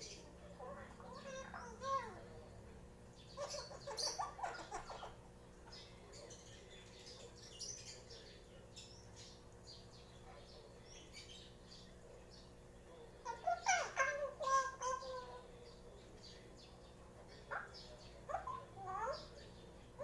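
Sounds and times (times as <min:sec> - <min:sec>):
parrot chattering and chirping: 0:00.0 - 0:02.4, 0:03.2 - 0:11.8, 0:12.4 - 0:20.0.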